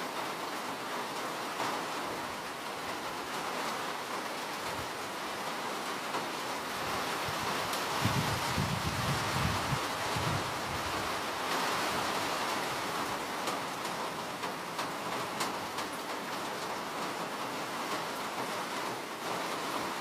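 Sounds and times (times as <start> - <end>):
steady rain hissing: 0.0 - 20.0.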